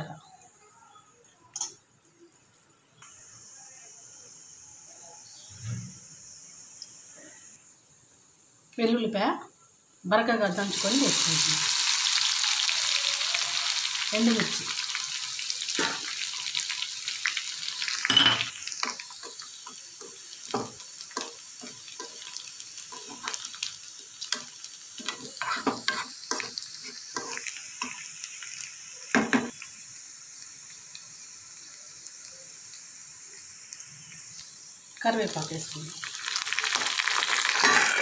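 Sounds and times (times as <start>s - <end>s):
spices sizzling in hot oil: 0.0s - 38.0s.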